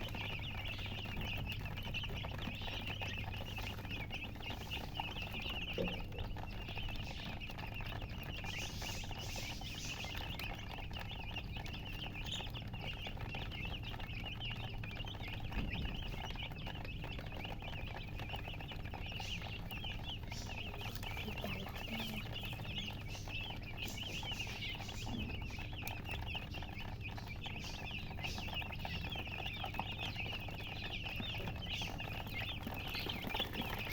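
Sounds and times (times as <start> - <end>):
chicks peeping: 0.0 - 33.9
low steady hum: 0.0 - 33.9.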